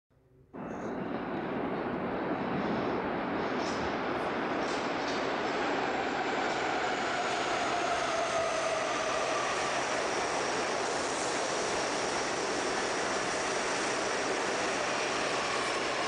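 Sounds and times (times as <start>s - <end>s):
passing train rumble: 0.5s - 16.0s.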